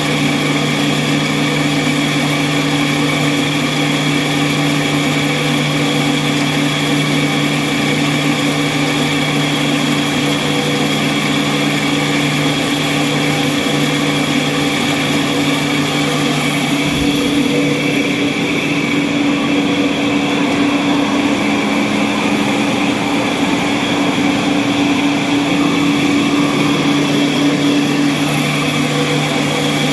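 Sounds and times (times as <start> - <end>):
machine motor humming: 0.0 - 29.9.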